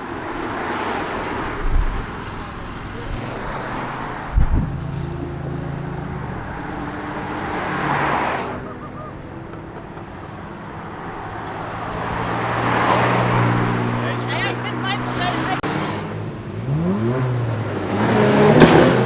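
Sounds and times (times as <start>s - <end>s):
cars passing by: 0.0s - 19.0s.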